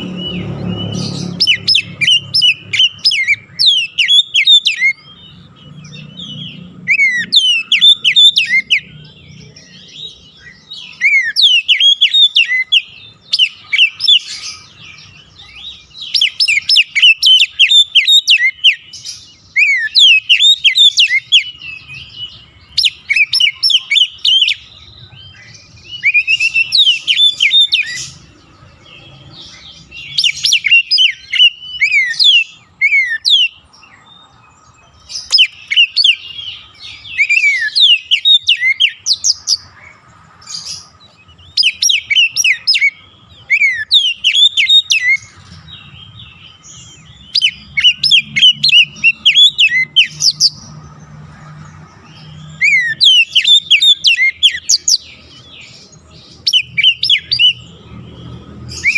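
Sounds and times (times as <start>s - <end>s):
bird singing whistled chirps: 0.0s - 51.0s, 51.9s - 58.9s.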